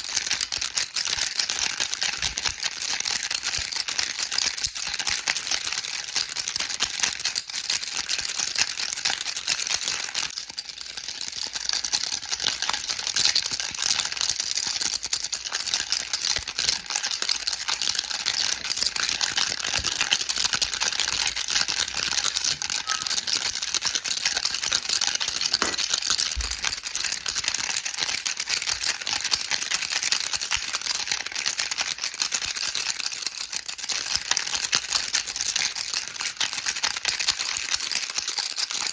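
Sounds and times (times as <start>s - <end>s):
baby rattle shaking: 0.0s - 38.9s.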